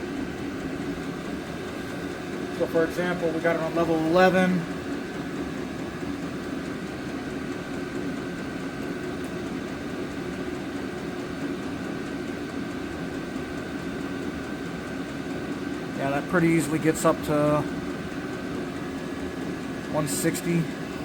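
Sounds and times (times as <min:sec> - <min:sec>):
faint hum: 0:00.0 - 0:21.0
heater blower fan whirring: 0:00.0 - 0:21.0.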